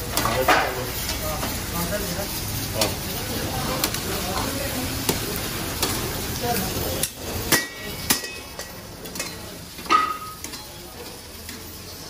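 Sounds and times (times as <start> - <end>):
metal utensils clanking on wok: 0.0 - 1.7, 3.8 - 12.0
frying sizzle: 0.0 - 12.0.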